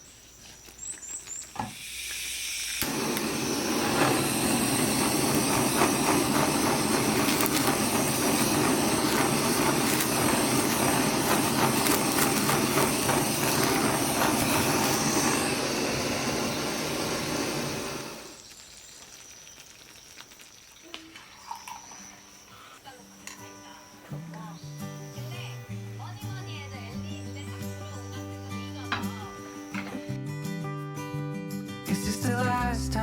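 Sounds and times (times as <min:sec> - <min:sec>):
food sizzling in a pan: 0:00.0 - 0:30.8.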